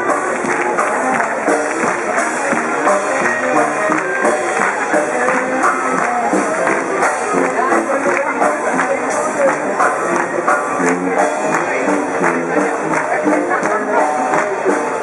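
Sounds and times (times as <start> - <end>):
dixieland jazz band playing: 0.0 - 15.0.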